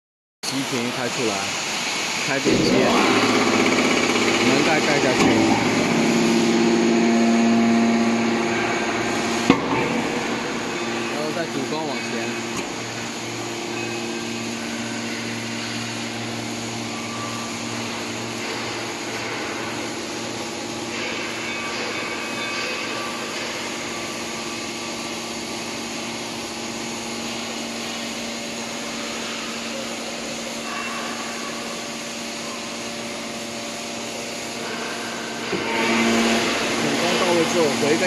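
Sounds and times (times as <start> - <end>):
hydraulic power unit humming: 0.5 - 38.0.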